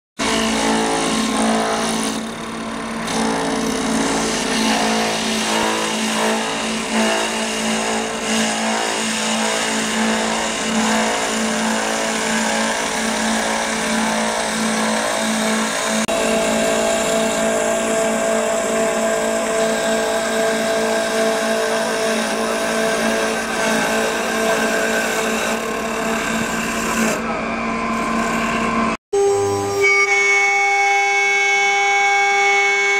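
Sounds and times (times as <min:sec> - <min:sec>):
wood-turning lathe humming: 0:00.2 - 0:32.9.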